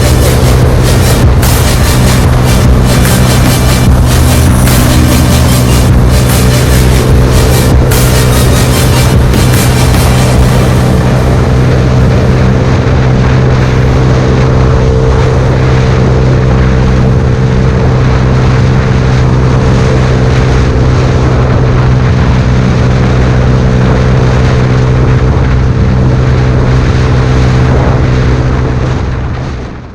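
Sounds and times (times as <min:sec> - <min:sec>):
motorcycle engine at steady speed: 0:00.0 - 0:29.9.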